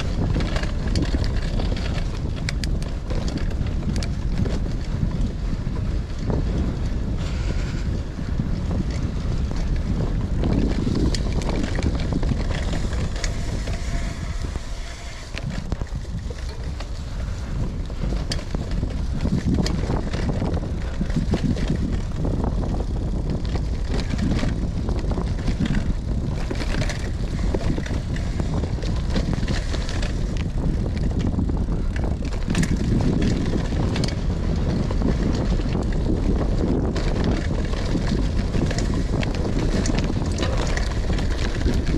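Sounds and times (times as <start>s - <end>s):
bike clicks and rattles: 0.0s - 41.9s
bike tyre noise: 0.0s - 41.9s
wind on microphone: 0.0s - 41.9s.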